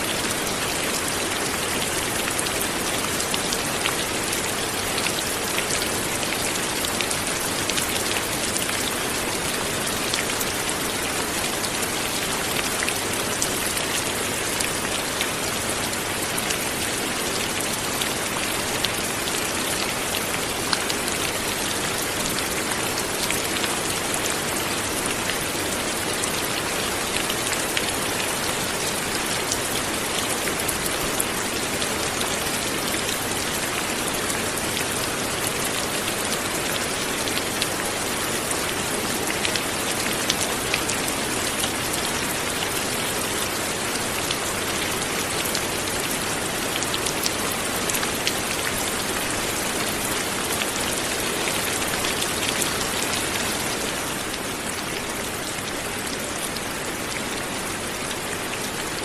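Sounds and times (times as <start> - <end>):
light rain patter: 0.0 - 59.0.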